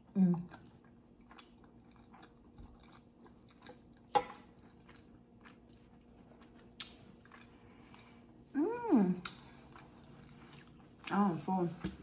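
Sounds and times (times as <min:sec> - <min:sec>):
close chewing with mouth clicks: 0:00.3 - 0:08.2, 0:09.2 - 0:11.2.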